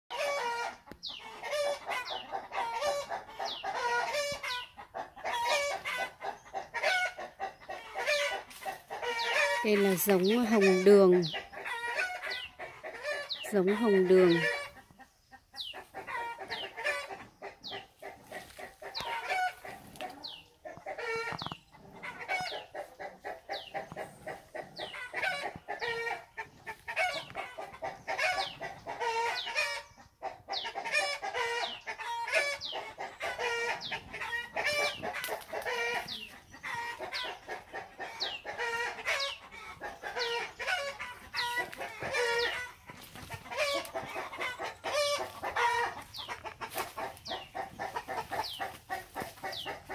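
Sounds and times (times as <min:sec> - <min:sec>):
chickens clucking: 0:00.1 - 0:49.9.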